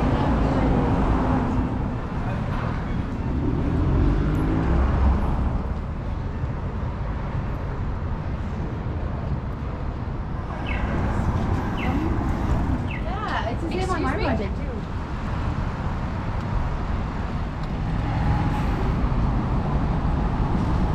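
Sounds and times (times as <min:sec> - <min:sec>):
heavy vehicle engine rumble: 0:00.0 - 0:20.9
steady traffic noise: 0:00.0 - 0:20.9.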